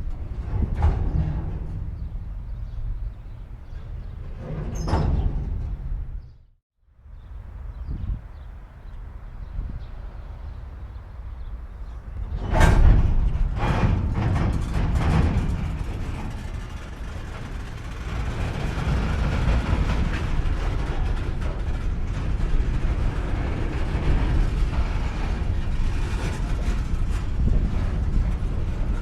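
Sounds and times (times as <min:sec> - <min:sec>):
train cars clanking: 0:00.0 - 0:06.5, 0:10.2 - 0:29.0
train wheels rumbling and rattling: 0:00.0 - 0:06.6, 0:07.2 - 0:29.0.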